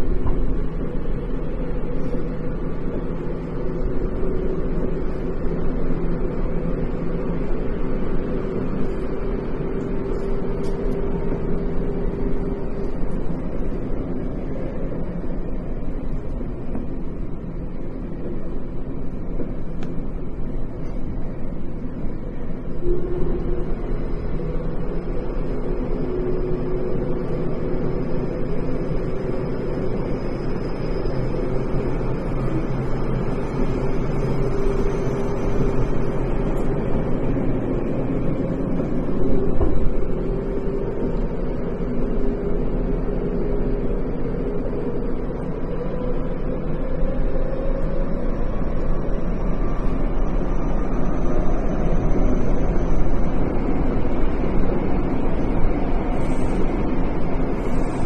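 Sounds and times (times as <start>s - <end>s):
faint steady tones: 0.0s - 58.0s
train running rumble: 0.0s - 58.0s.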